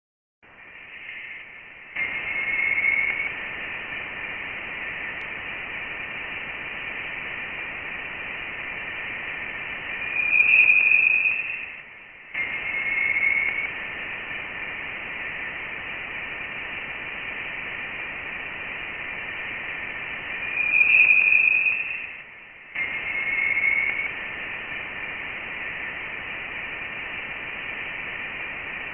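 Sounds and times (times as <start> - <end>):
steady high-pitched hiss: 0.4 - 28.9.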